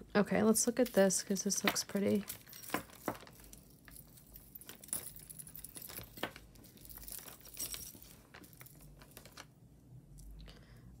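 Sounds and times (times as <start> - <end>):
jewelry rustling: 0.4 - 10.4
metal and beads clinking: 0.4 - 10.4.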